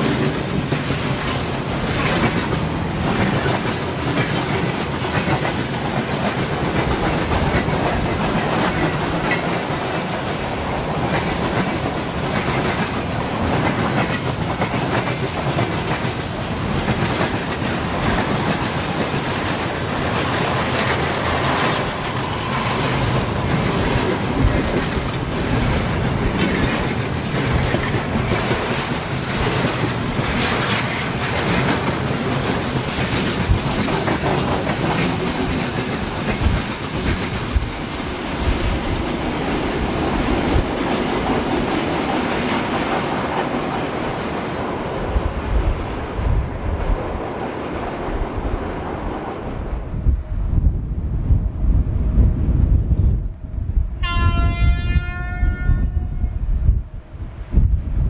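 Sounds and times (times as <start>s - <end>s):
wheels clacking over rail joints: 0.0s - 49.5s
freight train rumbling: 0.0s - 58.0s.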